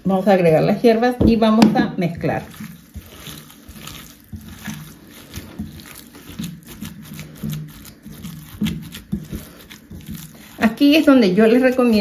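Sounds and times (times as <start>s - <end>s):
hands kneading ground meat: 0.0s - 12.0s.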